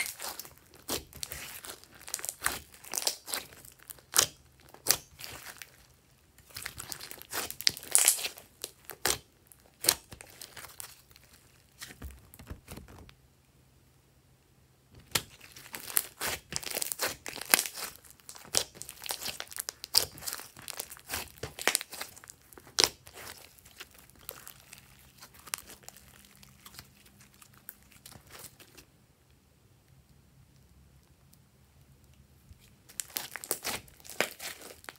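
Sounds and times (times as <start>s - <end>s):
hands squishing slime: 0.0s - 13.1s, 15.0s - 28.8s, 32.5s - 34.9s.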